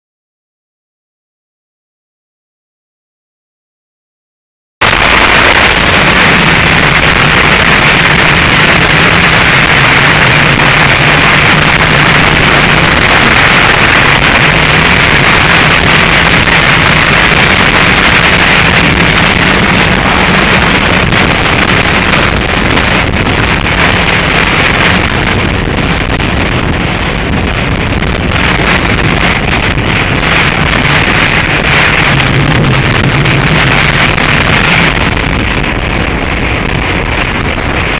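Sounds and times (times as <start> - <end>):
motorcycle engine humming: 4.8 - 37.9
wind rush on microphone: 4.8 - 37.9.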